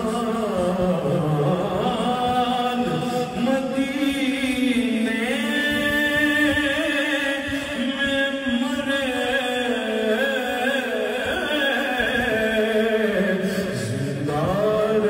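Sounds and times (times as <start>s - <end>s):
man singing devotional song: 0.0s - 15.0s.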